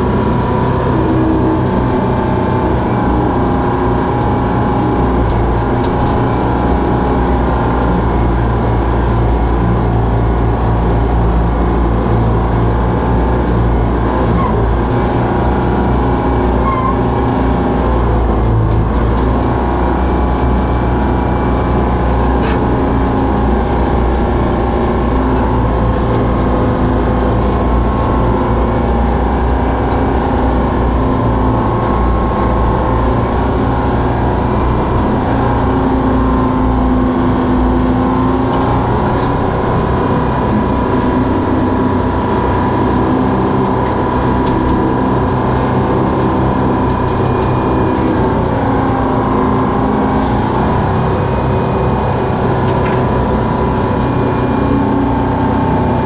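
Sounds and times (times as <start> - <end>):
dragline engine running under load: 0.0 - 56.0.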